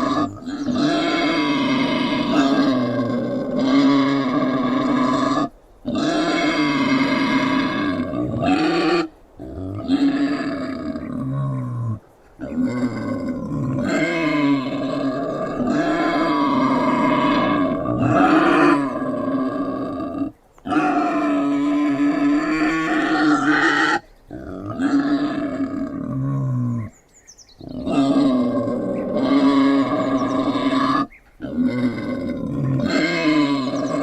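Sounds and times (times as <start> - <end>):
wild boar grunting and growling: 0.0 - 27.0, 27.6 - 34.0.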